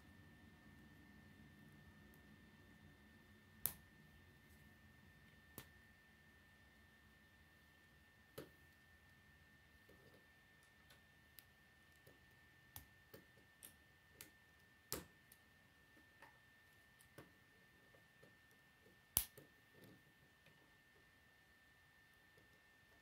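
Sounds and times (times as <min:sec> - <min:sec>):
faint high whine: 0:00.0 - 0:23.0.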